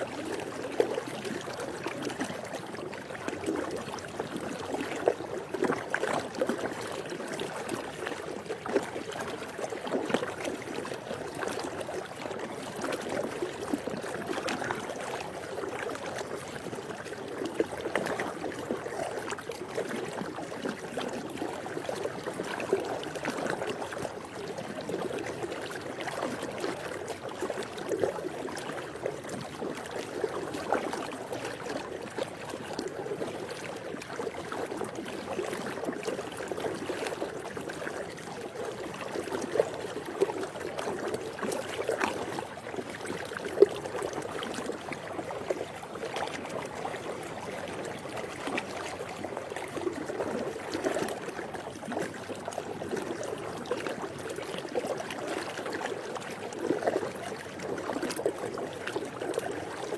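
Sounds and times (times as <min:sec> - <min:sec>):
pool water lapping and trickling: 0:00.0 - 0:59.9
small splashes and gurgles: 0:00.0 - 0:59.9.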